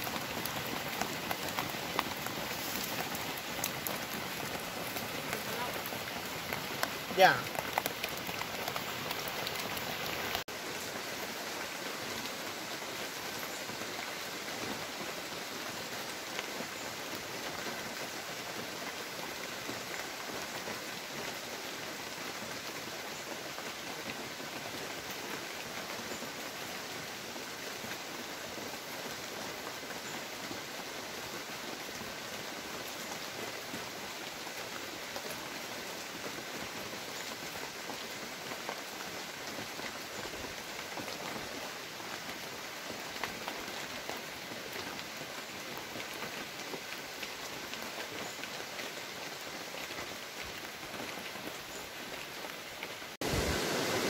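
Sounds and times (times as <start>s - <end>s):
rain on broad leaves: 0.0s - 54.0s.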